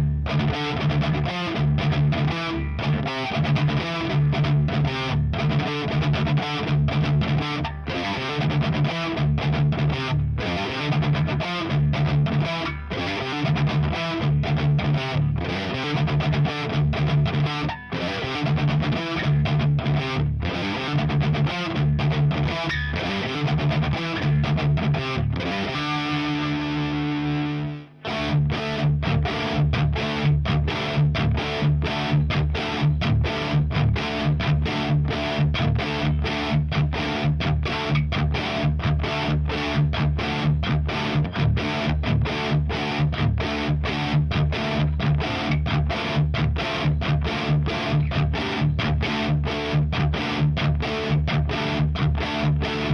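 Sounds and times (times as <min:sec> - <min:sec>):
electric guitar palm-muted chugging riff: 0:00.0 - 0:52.9
guitar chord ringing: 0:00.2 - 0:52.9.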